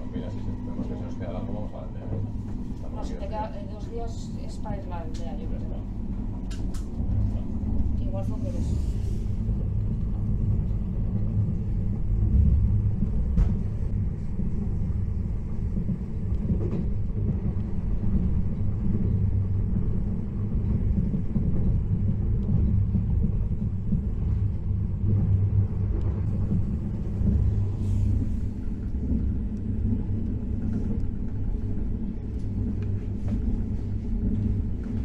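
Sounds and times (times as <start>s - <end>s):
train rumble inside carriage: 0.0s - 35.0s.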